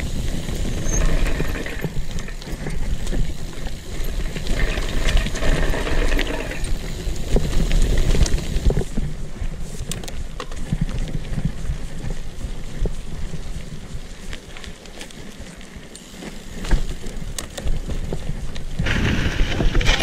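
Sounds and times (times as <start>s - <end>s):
mountain bike rolling on dirt: 0.0s - 20.0s.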